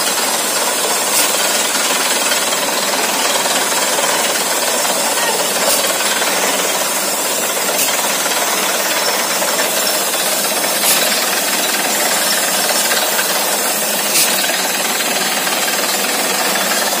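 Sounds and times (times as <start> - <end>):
drilling rig running: 0.0 - 17.0.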